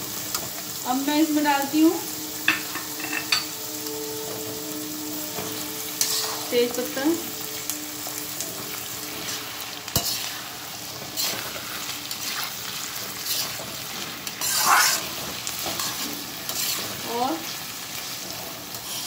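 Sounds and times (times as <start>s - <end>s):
onions sizzling in hot oil: 0.0s - 19.0s
metal spatula scraping pan: 2.4s - 19.0s.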